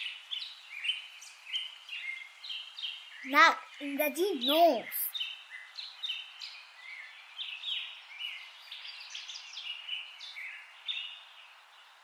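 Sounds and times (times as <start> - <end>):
faint outdoor hiss: 0.0 - 12.0
small birds chirping: 0.0 - 12.0.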